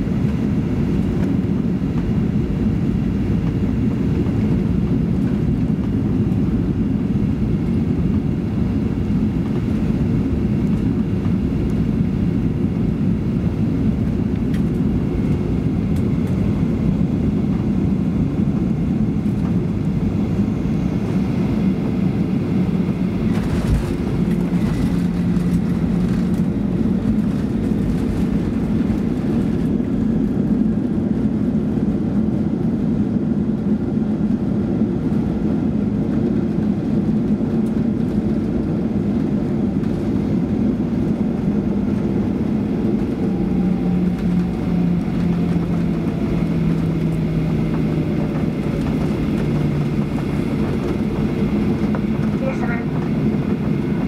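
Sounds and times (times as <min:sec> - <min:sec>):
engines and airflow rushing: 0:00.0 - 0:54.0.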